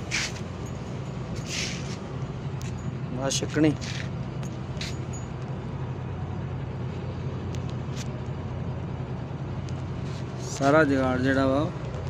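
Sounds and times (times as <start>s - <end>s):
truck engine humming: 0.0s - 12.0s.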